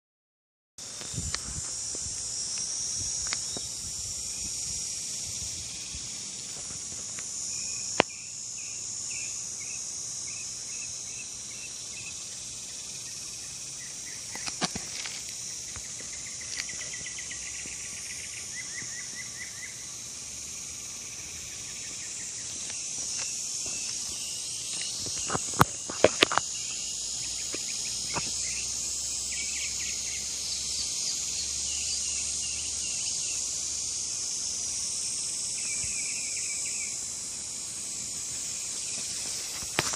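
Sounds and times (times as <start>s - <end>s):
insect chirps: 0.8s - 39.9s
insects buzzing: 0.8s - 39.9s.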